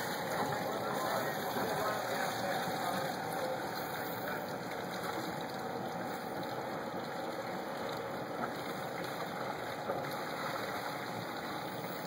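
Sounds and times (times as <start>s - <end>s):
boat engine: 0.0s - 12.0s
water rushing and gurgling: 0.0s - 12.0s.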